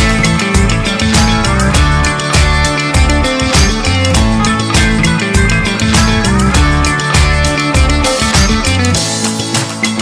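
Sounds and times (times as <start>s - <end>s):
upbeat guitar music: 0.0s - 10.0s.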